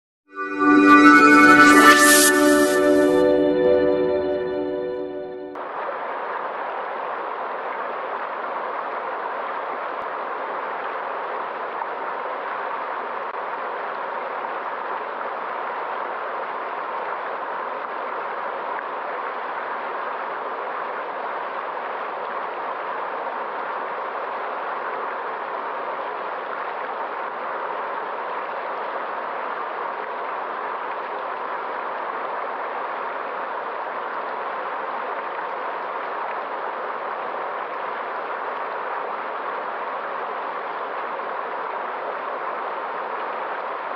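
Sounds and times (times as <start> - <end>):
flowing stream: 5.7 - 43.9.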